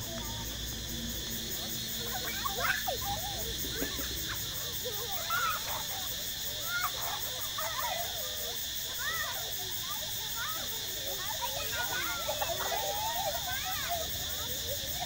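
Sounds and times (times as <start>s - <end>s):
children calling and squealing: 0.0s - 15.0s
high drone of insects: 0.0s - 15.0s.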